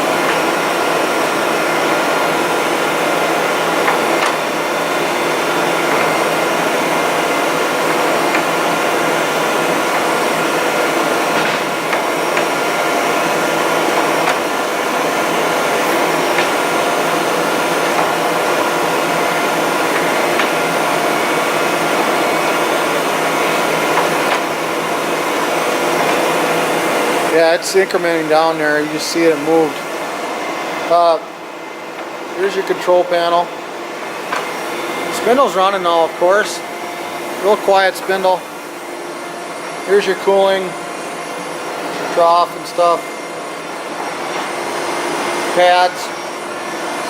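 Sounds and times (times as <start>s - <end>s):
grinder machine whir: 0.0s - 47.0s.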